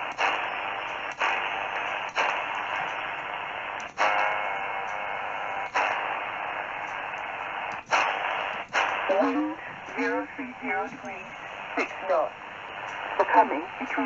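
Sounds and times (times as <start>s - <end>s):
faint steady radio tones: 0.0s - 14.0s
radio static hiss: 0.0s - 14.0s.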